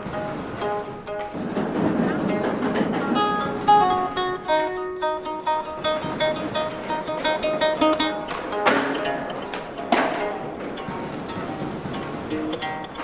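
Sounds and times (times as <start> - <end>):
guitar riff: 0.0 - 13.0.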